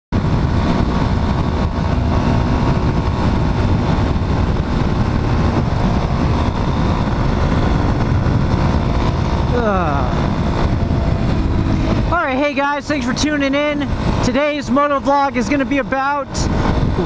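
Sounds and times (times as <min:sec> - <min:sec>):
motorcycle engine running: 0:00.1 - 0:17.0
wind rush: 0:00.1 - 0:17.0.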